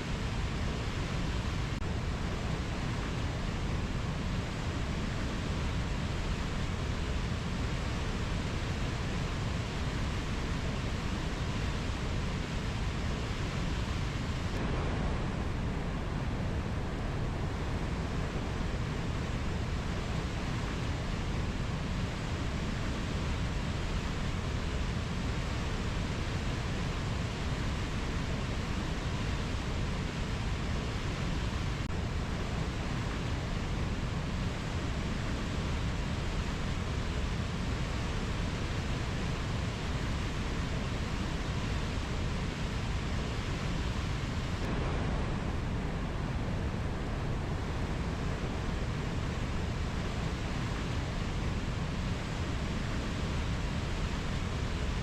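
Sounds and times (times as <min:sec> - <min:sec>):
rainforest rushing noise: 0:00.0 - 0:55.0.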